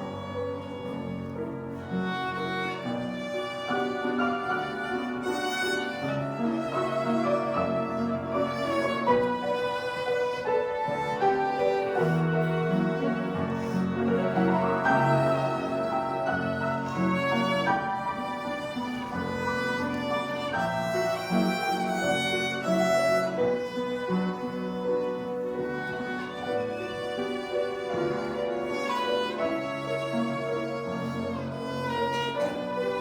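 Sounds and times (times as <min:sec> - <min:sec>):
lower accompaniment: 0:00.0 - 0:33.0
violin melody: 0:00.0 - 0:33.0.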